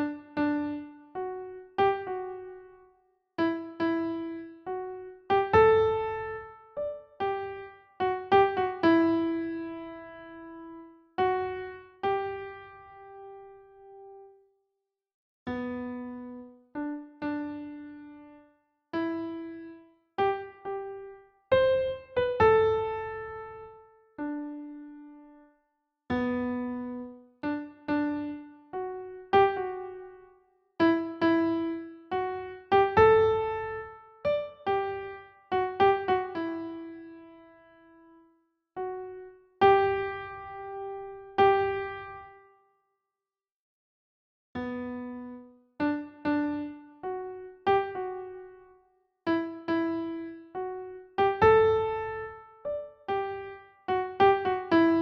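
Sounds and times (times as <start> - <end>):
slow electric piano melody: 0.0 - 14.3, 15.5 - 25.5, 26.1 - 38.2, 38.8 - 42.5, 44.6 - 55.0.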